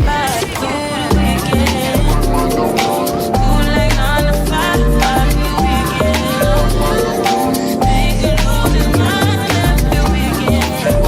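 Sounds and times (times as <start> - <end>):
dance track with deep bass: 1.1 - 11.0.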